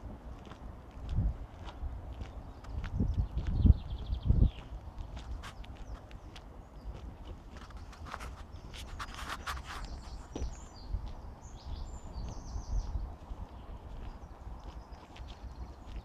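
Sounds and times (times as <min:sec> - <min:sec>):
footsteps on gravel: 0:00.0 - 0:16.0
small birds chirping: 0:00.3 - 0:16.0.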